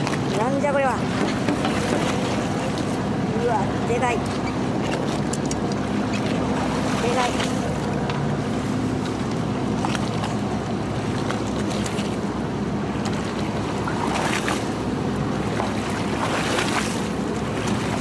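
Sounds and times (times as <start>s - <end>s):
boat engine humming: 0.0s - 18.0s
water washing against hull: 0.0s - 18.0s.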